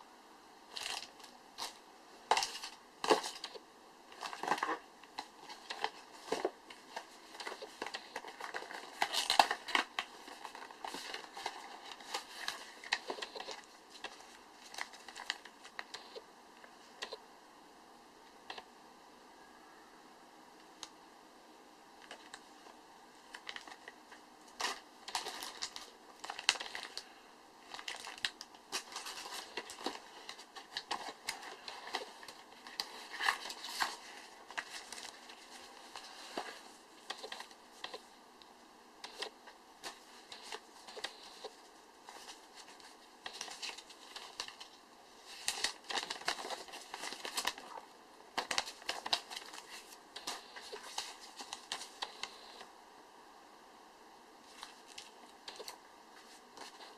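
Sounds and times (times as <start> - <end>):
packaging crinkling and rustling: 0.7 - 16.2, 23.3 - 38.1, 39.0 - 52.7, 54.5 - 56.9.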